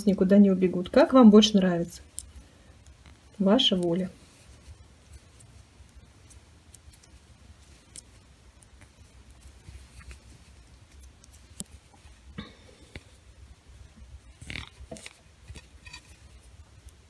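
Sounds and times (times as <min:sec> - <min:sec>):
knitting needles clicking: 0:00.2 - 0:13.4, 0:14.2 - 0:17.0.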